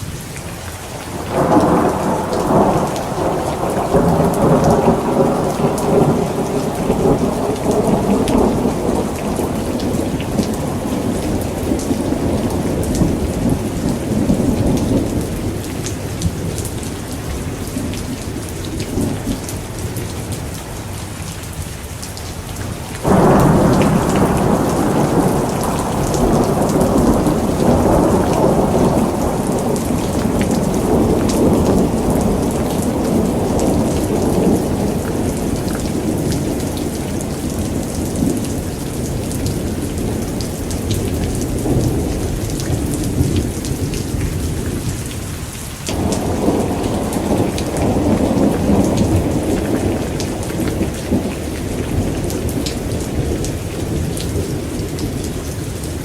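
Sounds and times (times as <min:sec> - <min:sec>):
rain pattering: 0:00.0 - 0:56.0
rolling thunder: 0:01.2 - 0:19.7, 0:23.0 - 0:45.3, 0:45.9 - 0:56.0.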